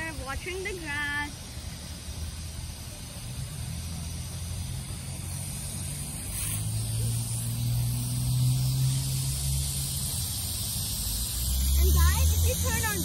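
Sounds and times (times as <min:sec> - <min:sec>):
lawn sprinklers hissing: 0:00.0 - 0:13.0.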